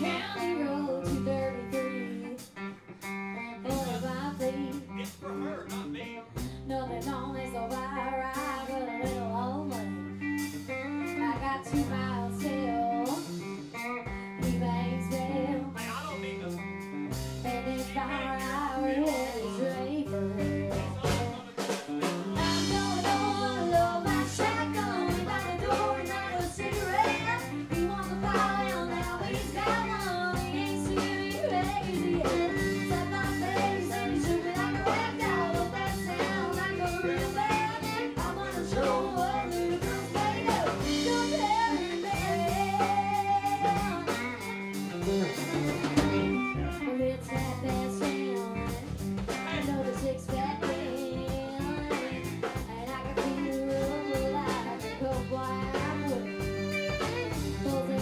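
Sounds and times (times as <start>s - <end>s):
woman singing into a microphone: 0.0s - 2.7s, 3.4s - 5.0s, 6.4s - 15.8s, 17.4s - 21.4s, 22.4s - 44.5s, 46.1s - 58.0s
band with guitar and drums: 0.0s - 58.0s.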